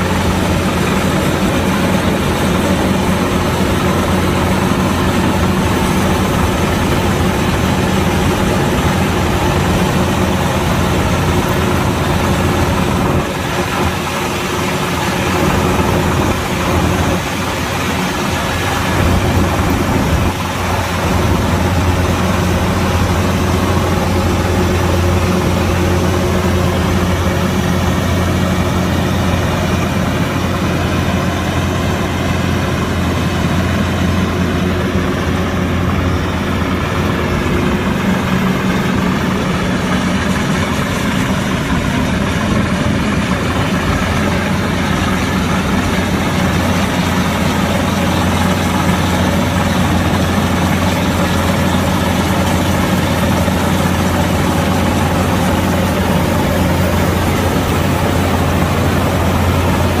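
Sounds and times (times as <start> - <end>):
combine harvester engine droning: 0.0 - 60.0.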